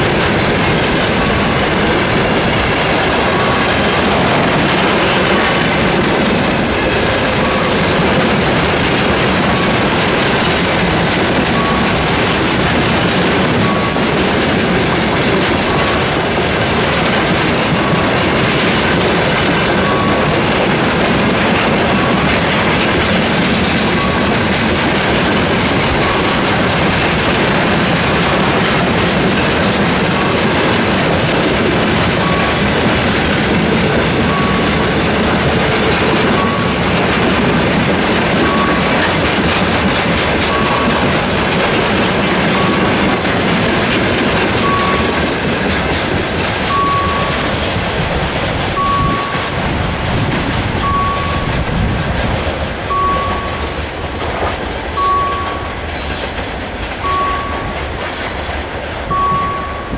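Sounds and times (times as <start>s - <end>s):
level-crossing warning bell: 0.0s - 59.9s
train wheels clickety-clack: 0.0s - 59.9s.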